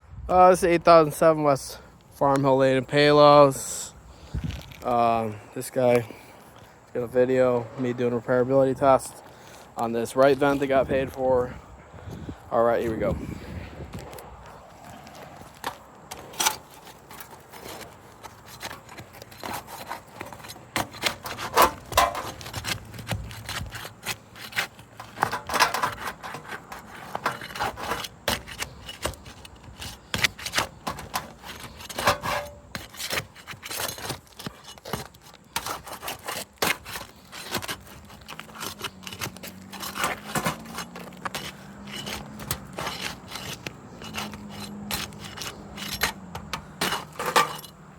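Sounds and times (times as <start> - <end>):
shingles scraping and rubbing: 1.2 - 47.9.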